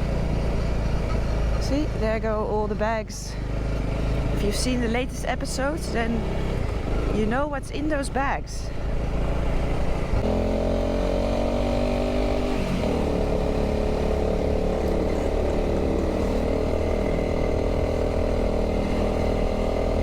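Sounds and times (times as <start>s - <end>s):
motorcycle engine while riding: 0.0s - 20.0s.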